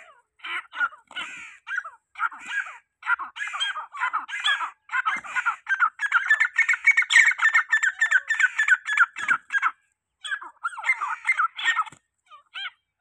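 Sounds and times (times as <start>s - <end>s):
francolins calling shrilly: 0.0s - 12.9s.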